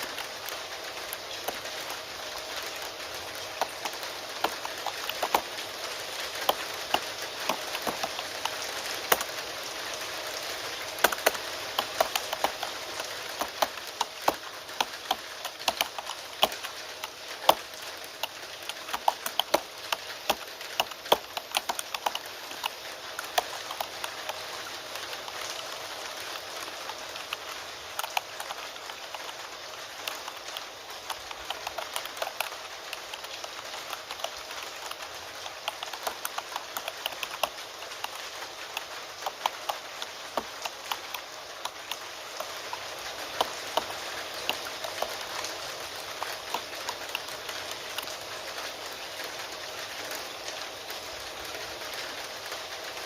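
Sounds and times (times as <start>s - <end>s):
computer keyboard typing: 0.0s - 9.5s, 10.4s - 48.8s
steady rain hiss: 0.0s - 53.0s.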